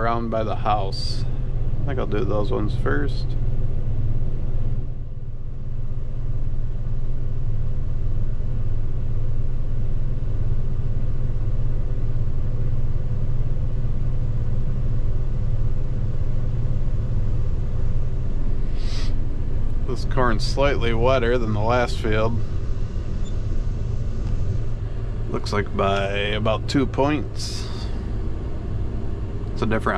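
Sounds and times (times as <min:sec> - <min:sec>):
combine harvester drone: 0:00.0 - 0:29.9.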